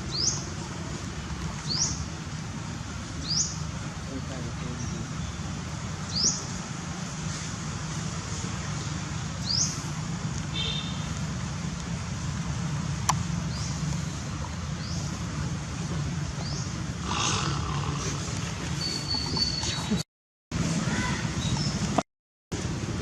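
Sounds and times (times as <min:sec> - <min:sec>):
low hum of distant traffic: 0:00.0 - 0:23.0.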